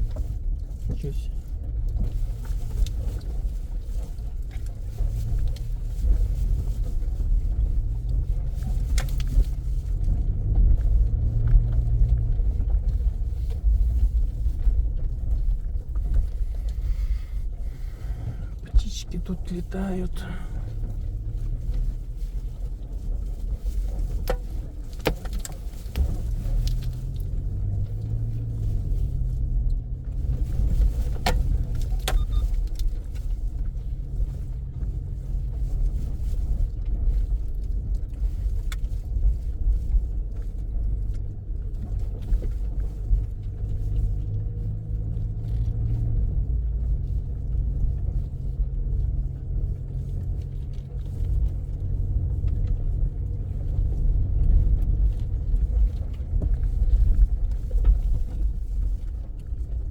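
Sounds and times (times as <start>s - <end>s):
car engine running: 0.0s - 59.9s
road rumble: 0.0s - 59.9s.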